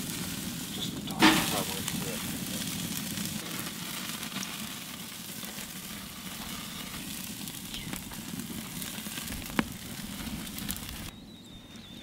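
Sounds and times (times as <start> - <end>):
steaks sizzling on a grill: 0.0 - 11.1.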